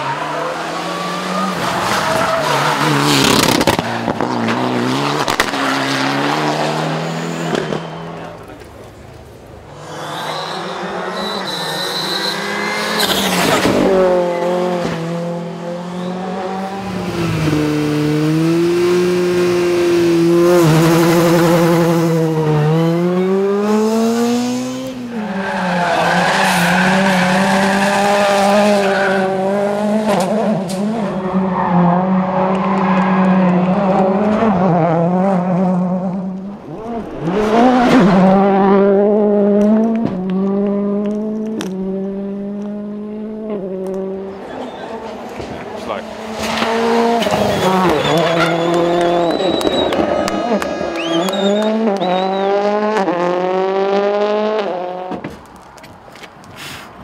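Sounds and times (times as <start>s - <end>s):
rally car engines revving: 0.0s - 55.5s.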